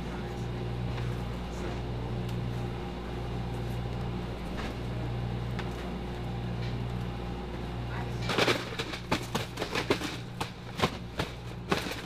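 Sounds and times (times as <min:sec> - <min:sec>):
low mechanical machinery hum: 0:00.0 - 0:12.0.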